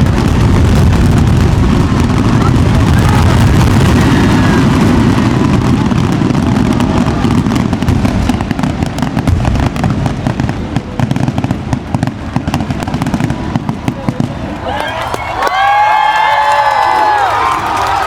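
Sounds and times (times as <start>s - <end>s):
fireworks shell bursts booming: 0.0s - 14.5s
fireworks crackling: 0.0s - 18.0s.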